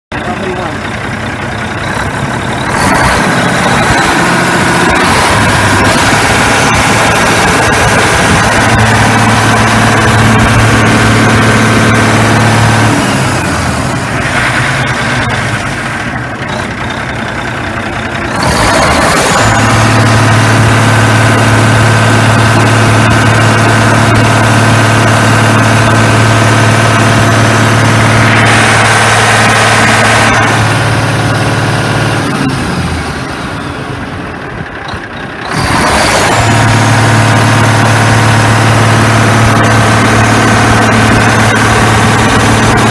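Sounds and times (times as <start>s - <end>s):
diesel engine idling: 0.1s - 42.9s.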